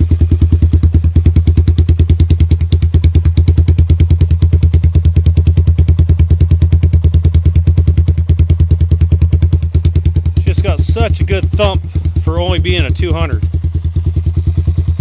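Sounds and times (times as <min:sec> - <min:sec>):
three-wheeler engine idling: 0:00.0 - 0:15.0.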